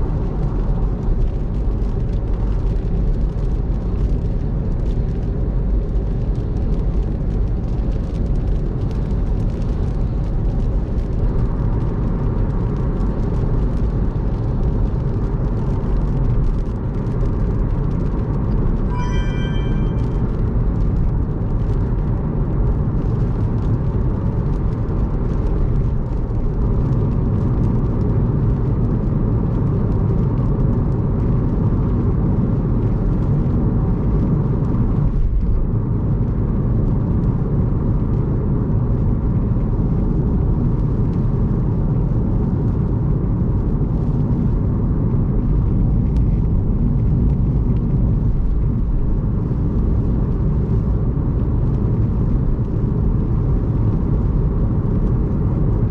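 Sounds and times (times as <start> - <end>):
tyres rumbling on wet road: 0.0 - 19.0, 20.1 - 55.9.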